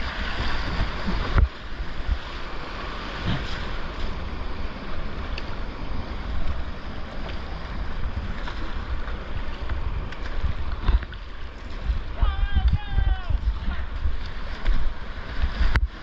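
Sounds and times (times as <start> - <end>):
rushing whitewater: 0.0 - 16.0
wind rumbling on microphone: 0.0 - 16.0.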